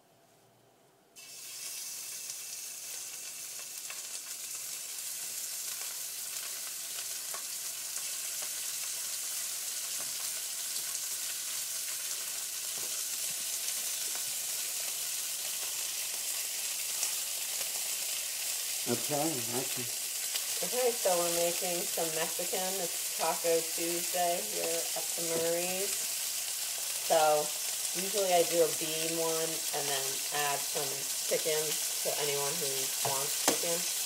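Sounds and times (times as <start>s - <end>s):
chicken sizzling in a skillet: 1.2s - 34.0s.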